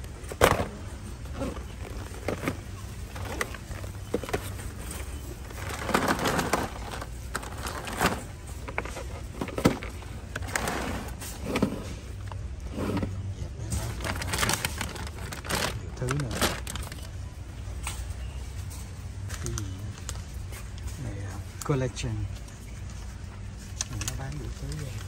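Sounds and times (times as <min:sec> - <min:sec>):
indistinct shopper voices: 0:00.0 - 0:25.0.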